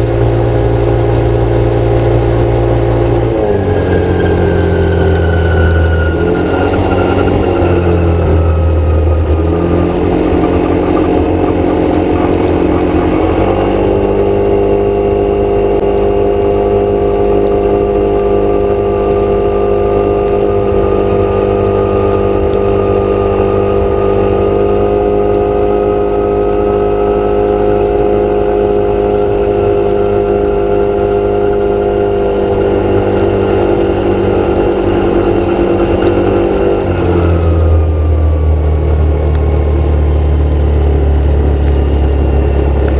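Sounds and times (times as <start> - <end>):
motor engine running: 0.0 - 42.9.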